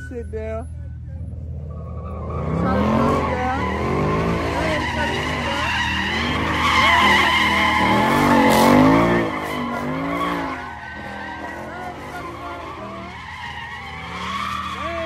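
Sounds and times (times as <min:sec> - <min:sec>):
car engine revving: 0:00.0 - 0:15.0
tires screeching: 0:00.0 - 0:15.0.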